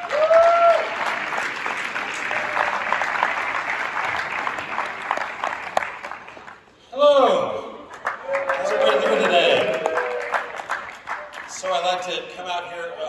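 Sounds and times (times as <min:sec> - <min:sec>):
audience applauding: 0:00.0 - 0:06.7, 0:07.9 - 0:12.2.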